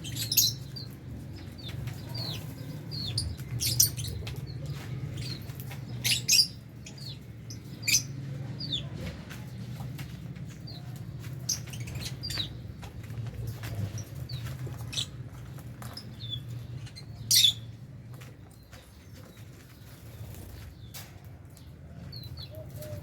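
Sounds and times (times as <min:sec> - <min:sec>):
lovebirds chirping: 0:00.0 - 0:23.0.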